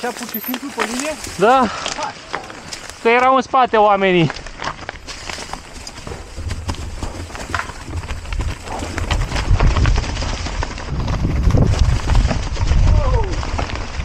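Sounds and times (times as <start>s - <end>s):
bike clattering over stones: 0.0s - 14.0s
heavy low rumble: 2.2s - 13.8s.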